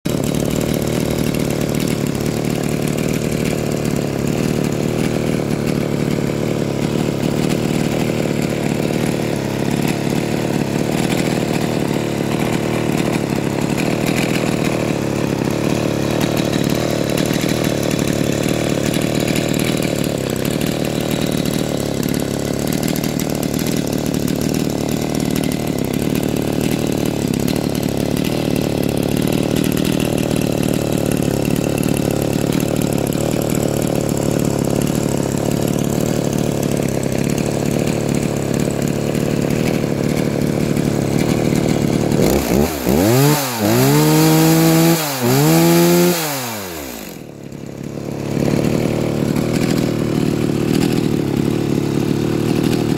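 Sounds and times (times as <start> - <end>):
chainsaw idling: 0.1 - 52.9.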